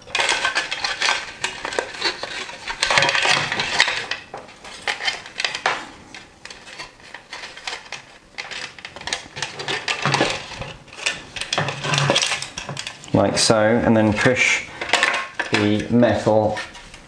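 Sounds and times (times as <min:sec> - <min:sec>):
cables scraping through plastic housing: 0:00.0 - 0:17.0.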